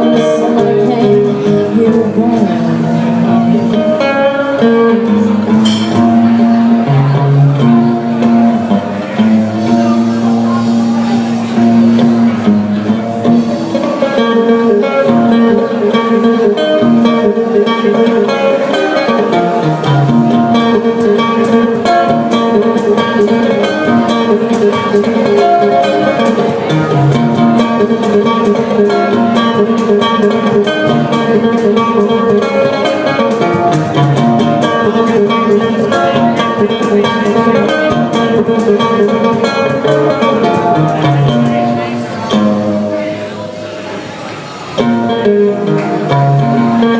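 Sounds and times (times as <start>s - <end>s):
acoustic guitar strumming: 0.0s - 46.9s.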